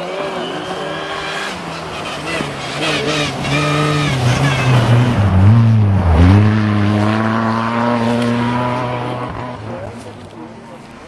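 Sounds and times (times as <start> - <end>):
rally car driving past: 0.0 - 10.0.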